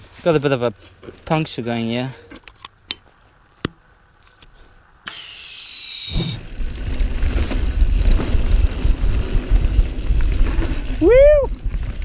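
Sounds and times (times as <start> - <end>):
tyres on dirt trail: 0.0 - 12.0.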